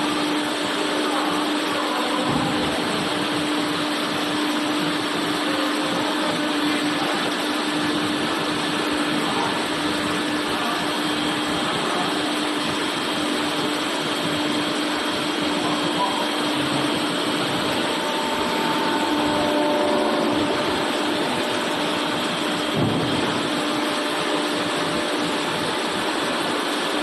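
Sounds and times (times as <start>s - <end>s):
machine whirring with low hum: 0.0s - 27.0s.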